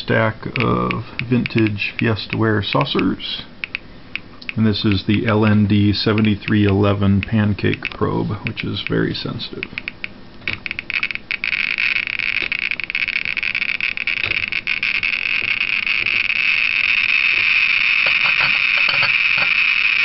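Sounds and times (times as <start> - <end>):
geiger counter clicking: 0.0 - 20.0.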